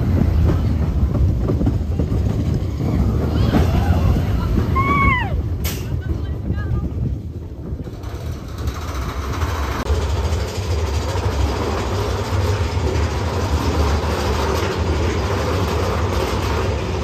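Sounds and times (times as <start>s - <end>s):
cars rattling: 0.0s - 17.0s
roller coaster wheels rumbling: 0.0s - 17.0s.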